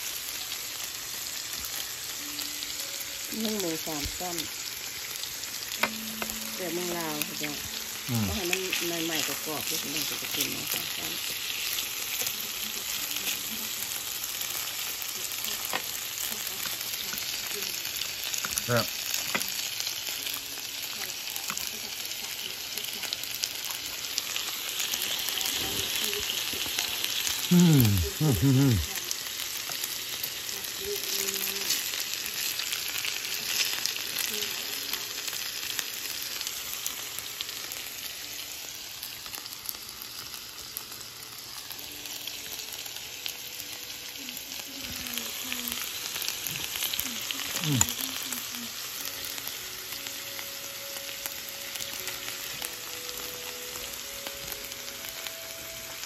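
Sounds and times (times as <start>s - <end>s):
food sizzling on a griddle: 0.0s - 56.0s.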